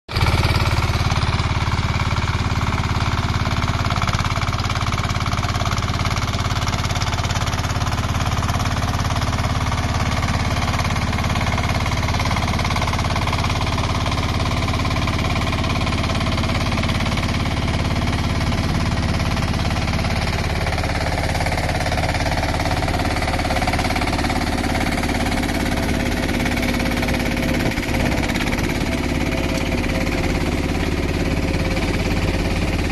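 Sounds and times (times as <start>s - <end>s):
tractor engine knocking clatter: 0.1s - 32.9s.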